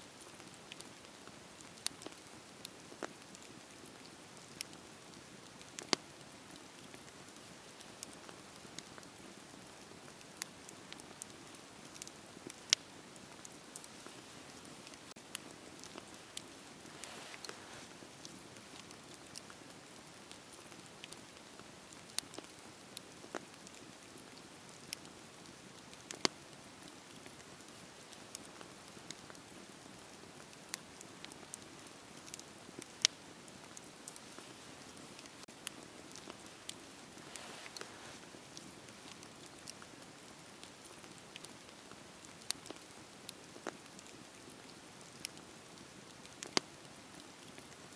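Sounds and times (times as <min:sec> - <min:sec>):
fire popping and snapping: 0:00.1 - 0:47.9
wood fire crackling: 0:00.1 - 0:47.9.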